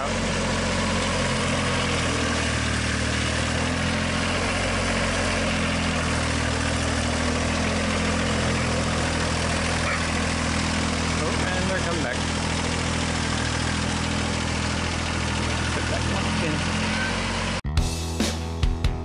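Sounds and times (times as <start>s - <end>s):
tractor engine running: 0.0s - 17.6s.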